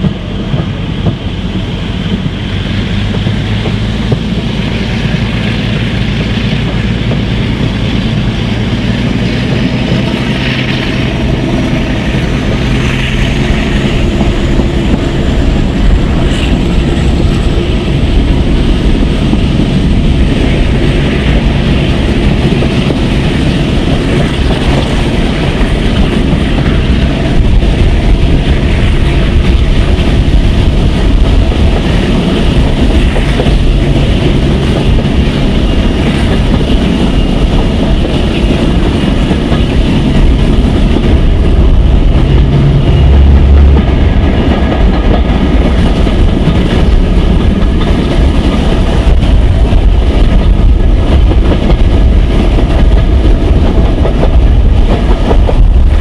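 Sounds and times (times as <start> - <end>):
carriages rumbling on track: 0.0 - 56.0
diesel locomotive engines droning: 0.0 - 56.0
wind: 0.0 - 56.0.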